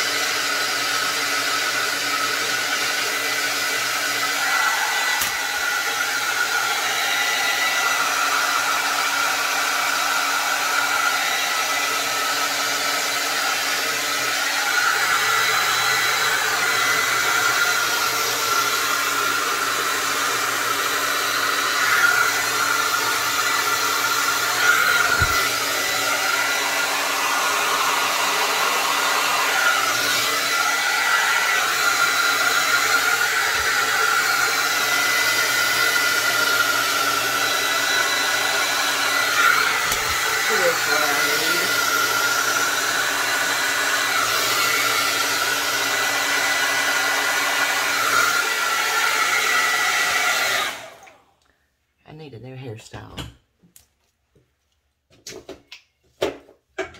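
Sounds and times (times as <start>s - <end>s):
hair dryer running: 0.0s - 51.4s.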